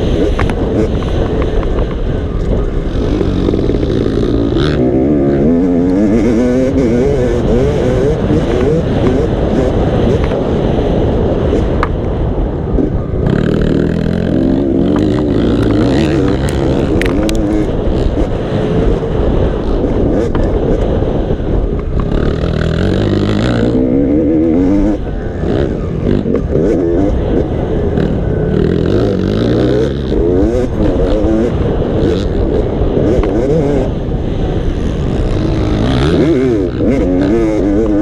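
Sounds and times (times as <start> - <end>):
dirt bike engine revving: 0.0 - 11.9, 12.6 - 38.0.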